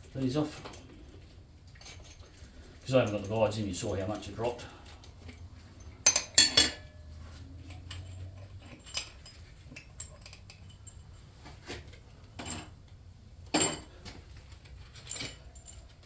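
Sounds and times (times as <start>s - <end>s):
metal tools clinking: 0.0s - 12.8s, 13.5s - 16.0s.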